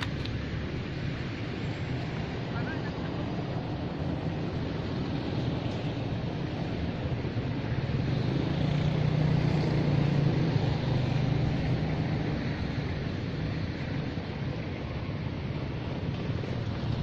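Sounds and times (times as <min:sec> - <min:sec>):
rushing noise: 0:00.0 - 0:17.0.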